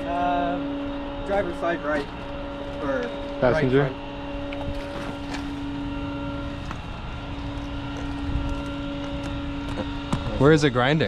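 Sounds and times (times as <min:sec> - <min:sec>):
engine whine: 0:00.0 - 0:11.0.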